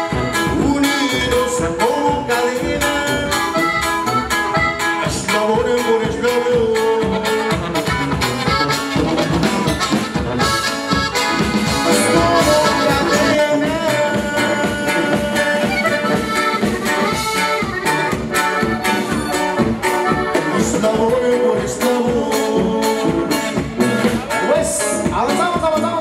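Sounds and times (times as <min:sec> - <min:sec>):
accordion melody: 0:00.0 - 0:26.0
dance band playing: 0:00.0 - 0:26.0.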